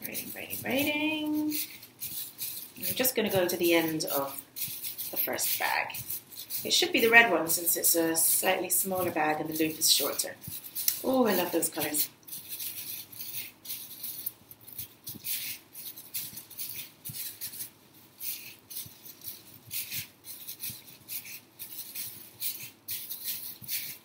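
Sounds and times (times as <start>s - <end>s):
plastic strips rustling and crinkling: 0.0s - 24.0s.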